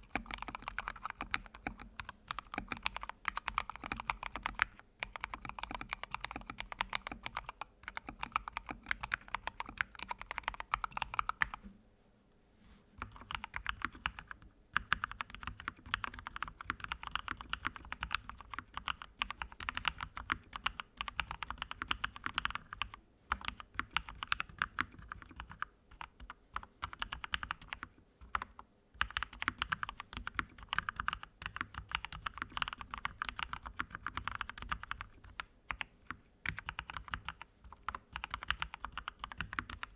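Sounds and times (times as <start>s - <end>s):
fast typing on keyboard: 0.0s - 11.6s, 13.0s - 39.9s.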